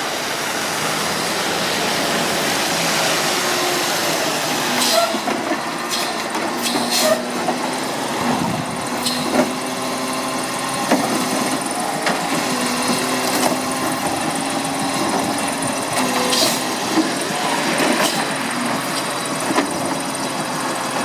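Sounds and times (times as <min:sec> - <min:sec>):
garbage truck engine hum: 0:00.0 - 0:21.0.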